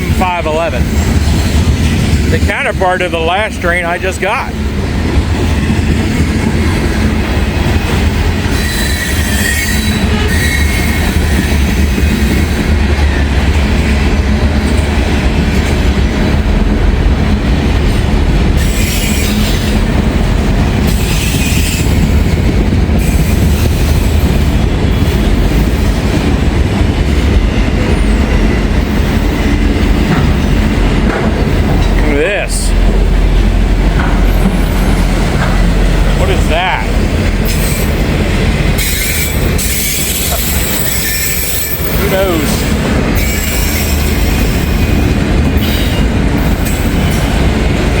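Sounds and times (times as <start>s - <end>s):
train clatter: 0.0s - 48.0s
train wheels rumbling on rails: 0.0s - 48.0s.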